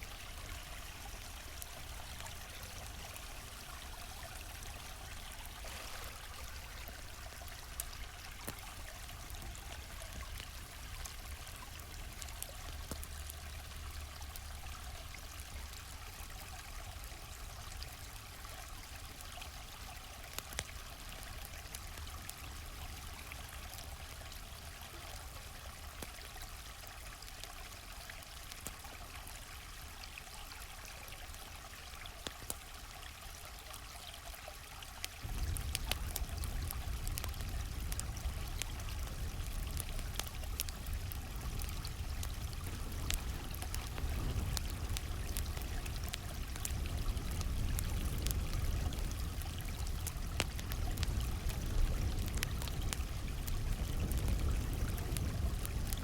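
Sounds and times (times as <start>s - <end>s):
campfire pops and crackles: 0.0s - 32.8s, 35.0s - 56.0s
stream water trickling: 0.0s - 56.0s.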